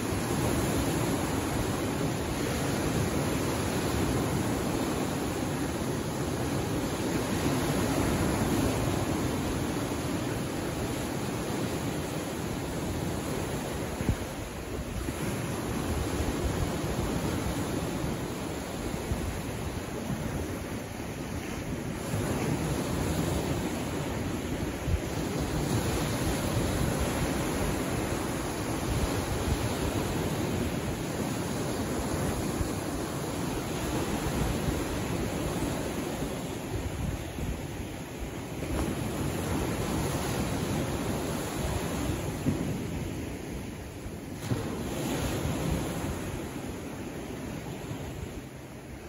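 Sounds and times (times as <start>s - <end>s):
waves washing over rocks: 0.0s - 49.0s.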